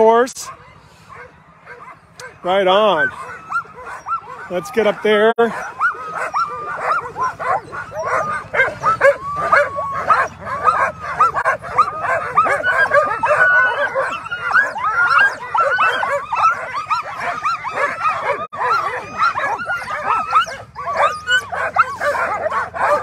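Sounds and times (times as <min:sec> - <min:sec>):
sled dogs yipping and barking: 0:00.0 - 0:23.0.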